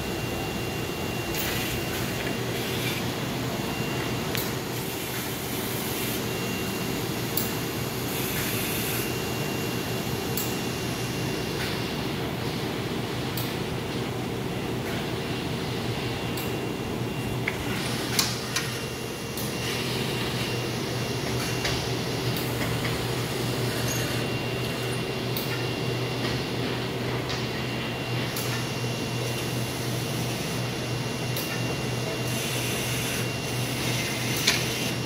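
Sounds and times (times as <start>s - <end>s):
machine hum with high whine: 0.0s - 35.0s.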